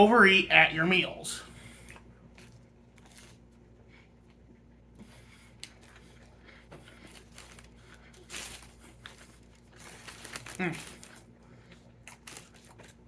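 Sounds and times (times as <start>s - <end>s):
person chewing food: 1.5s - 13.0s.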